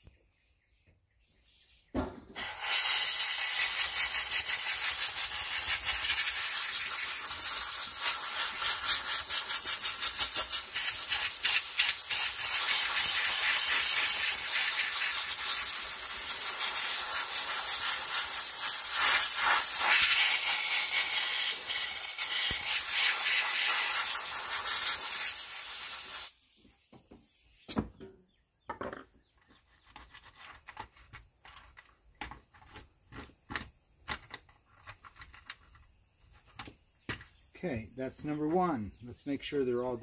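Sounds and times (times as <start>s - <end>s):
loud steady hiss: 2.3s - 27.9s, 32.2s - 40.0s.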